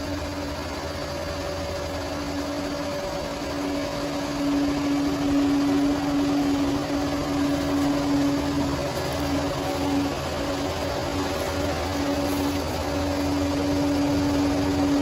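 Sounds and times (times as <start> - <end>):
bulldozer diesel engine whining: 0.0 - 15.0.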